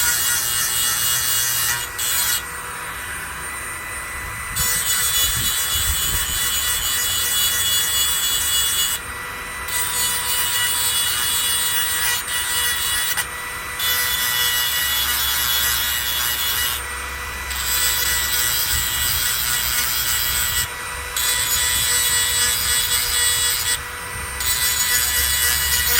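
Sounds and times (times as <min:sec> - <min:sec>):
blade grinding rasp: 0:00.0 - 0:25.9.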